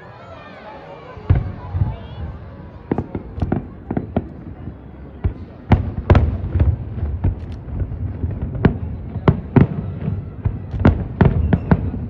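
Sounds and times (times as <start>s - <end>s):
fireworks bangs: 1.2s - 12.0s
low rumble of explosions: 1.2s - 12.0s.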